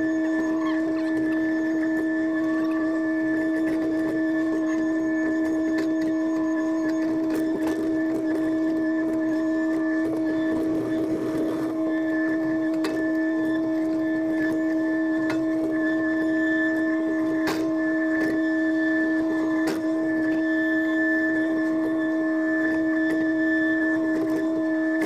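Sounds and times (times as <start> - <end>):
excavator diesel and hydraulic drone: 0.0 - 25.0.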